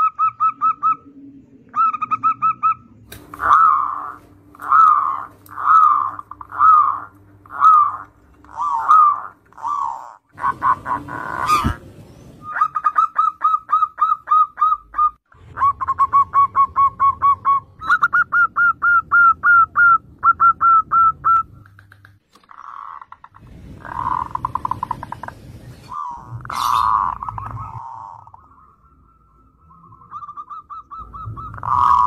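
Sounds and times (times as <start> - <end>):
doves cooing: 0.0 - 21.8, 22.5 - 32.0.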